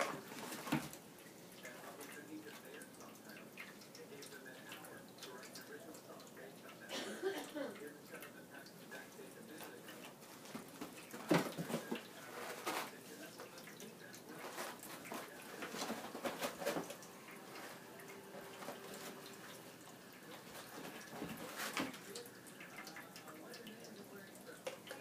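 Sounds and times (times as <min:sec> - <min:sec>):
pet drinking fountain trickling: 0:00.1 - 0:25.0.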